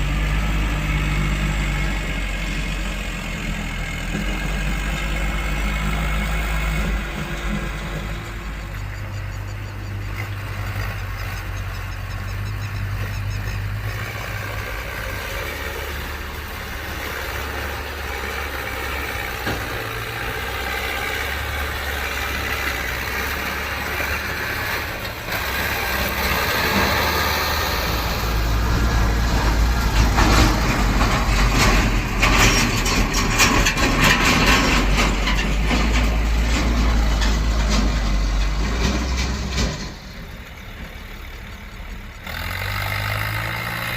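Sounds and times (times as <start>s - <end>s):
tractor diesel engines running: 0.0s - 43.9s.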